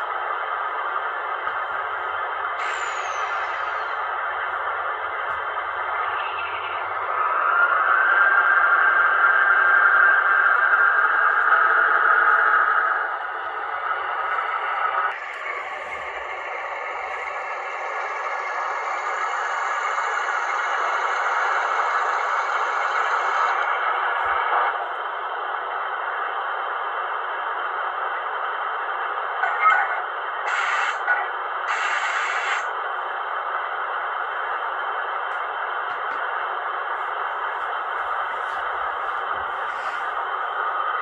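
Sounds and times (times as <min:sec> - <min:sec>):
model train motor whirring: 0:00.0 - 0:25.1, 0:30.5 - 0:41.0.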